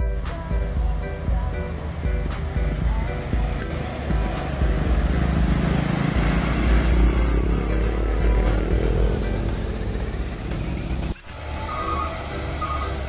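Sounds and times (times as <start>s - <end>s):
diesel truck engine passing: 0.0s - 13.0s.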